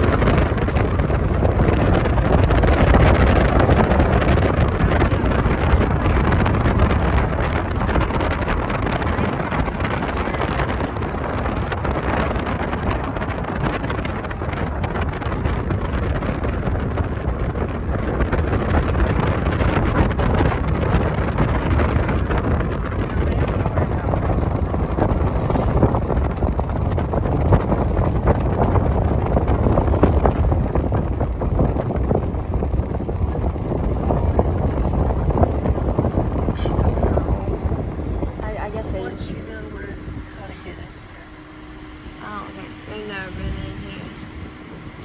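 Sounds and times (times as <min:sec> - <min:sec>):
car road noise: 0:00.0 - 0:45.0
wind buffeting microphone: 0:00.0 - 0:45.0.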